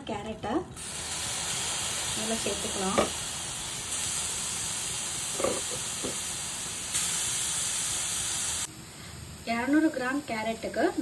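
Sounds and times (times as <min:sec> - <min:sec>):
carrot sizzling in a pan: 0:00.8 - 0:11.0.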